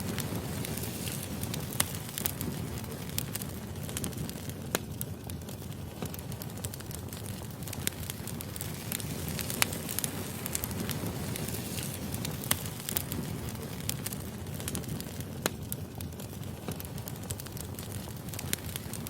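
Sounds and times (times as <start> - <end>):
firewood crackling and popping: 0.0 - 19.0
low rush of flames: 0.0 - 19.0.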